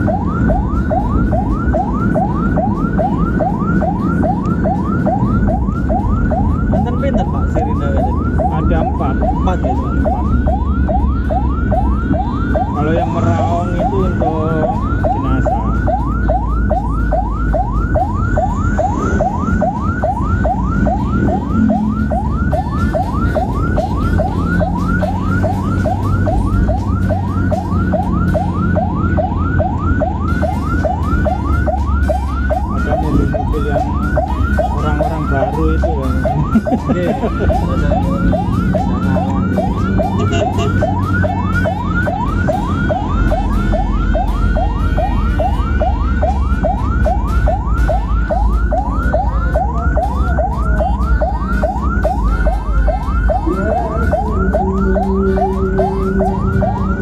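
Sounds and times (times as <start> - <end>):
ambulance siren yelping: 0.0 - 57.0
engine and road noise: 0.0 - 57.0.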